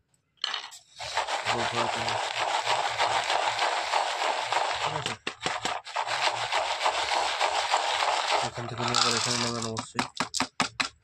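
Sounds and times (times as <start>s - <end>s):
pellets rattling in a steel cup: 1.0s - 10.5s.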